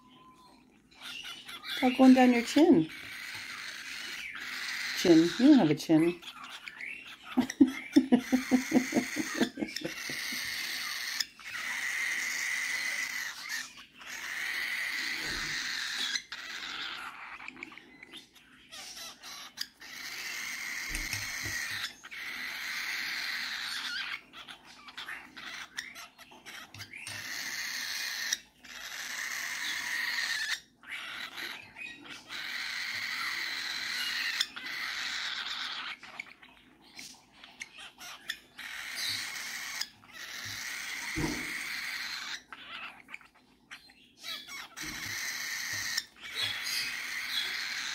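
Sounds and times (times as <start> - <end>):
young bird raspy begging calls: 1.0 - 36.4, 37.6 - 43.5, 44.2 - 47.9.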